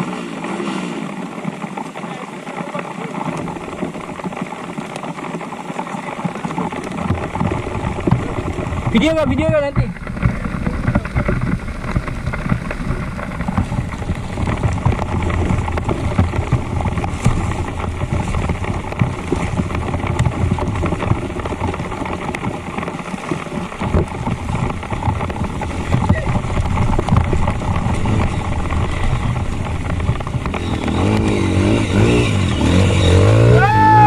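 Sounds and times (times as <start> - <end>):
motorcycle engine running: 0.0 - 34.0
wind buffeting microphone: 6.1 - 34.0.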